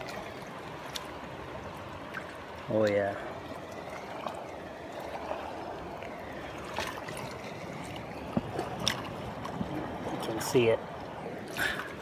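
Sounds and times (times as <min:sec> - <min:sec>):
flowing stream water: 0:00.0 - 0:12.0.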